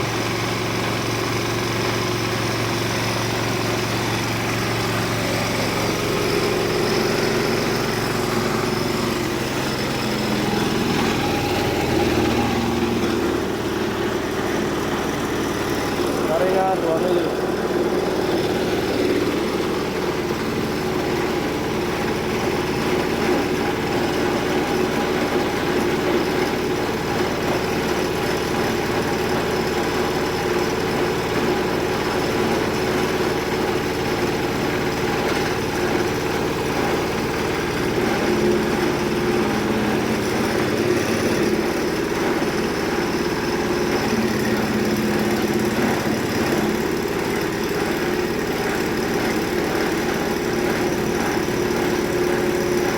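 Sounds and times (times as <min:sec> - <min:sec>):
chopper grinder machine running: 0:00.0 - 0:52.9.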